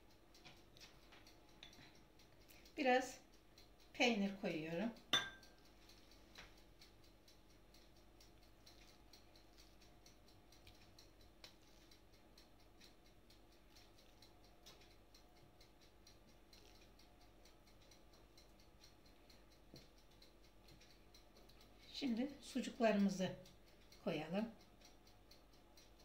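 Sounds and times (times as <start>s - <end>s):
faint ticking: 0.0s - 26.0s.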